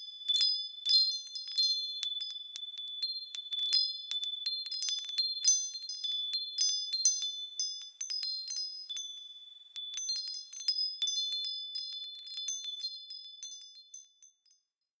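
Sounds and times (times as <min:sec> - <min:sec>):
wind chimes ringing: 0:00.0 - 0:09.2, 0:09.8 - 0:14.6.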